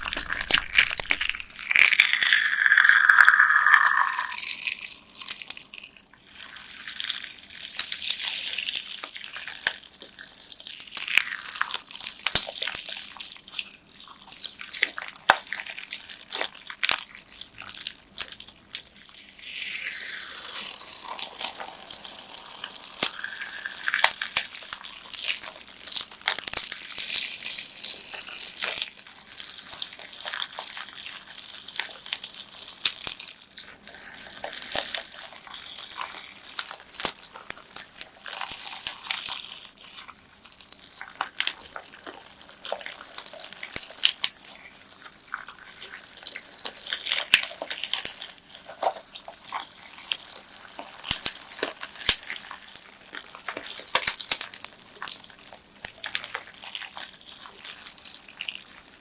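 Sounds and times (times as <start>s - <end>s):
slime with beads squishing: 0.0s - 59.0s.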